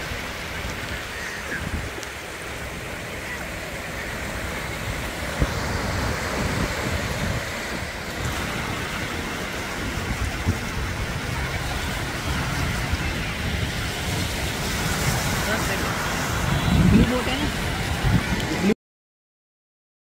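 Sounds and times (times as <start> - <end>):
small waves breaking on shore: 0.0 - 18.8
wind rumble on microphone: 0.0 - 18.8.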